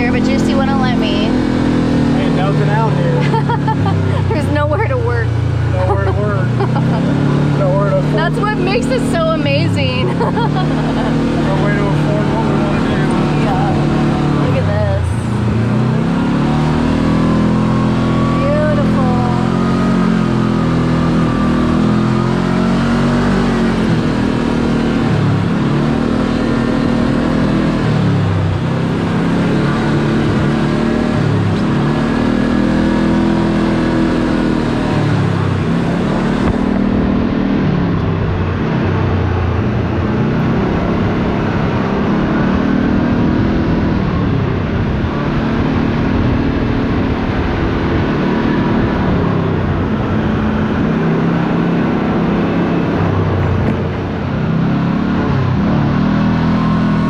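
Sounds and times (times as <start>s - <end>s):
road and tyre noise: 0.0s - 57.0s
utility vehicle engine revving: 0.0s - 57.0s.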